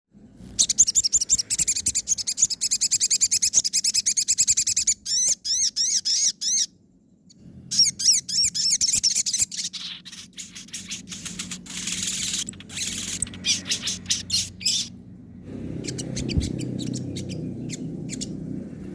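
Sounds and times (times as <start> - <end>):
faint bird trill: 0.4 - 15.0, 15.7 - 18.5
bird chirps: 0.5 - 18.9
bird singing rapid high notes: 0.6 - 6.7, 7.7 - 15.0, 15.6 - 18.6.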